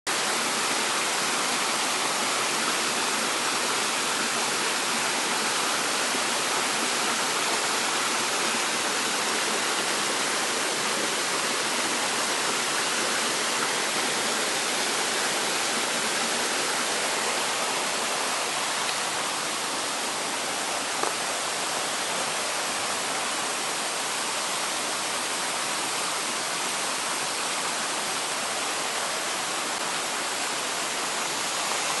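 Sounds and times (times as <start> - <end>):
stream rushing over rocks: 0.1 - 32.0.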